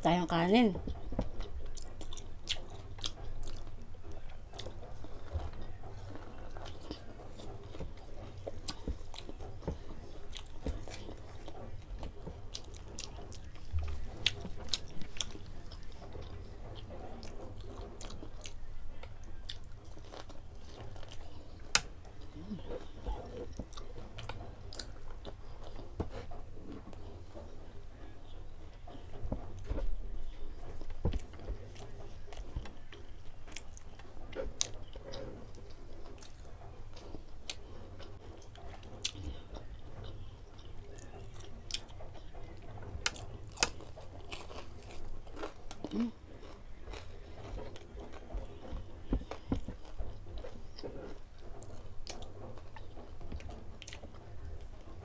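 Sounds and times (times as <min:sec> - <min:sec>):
person chewing crunchy food: 0:00.6 - 0:55.0.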